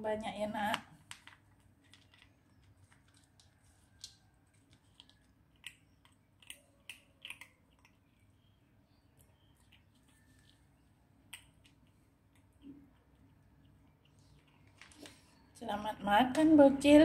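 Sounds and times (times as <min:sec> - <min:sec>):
kitten crunching dry kibble: 0:00.9 - 0:08.5, 0:09.1 - 0:15.4.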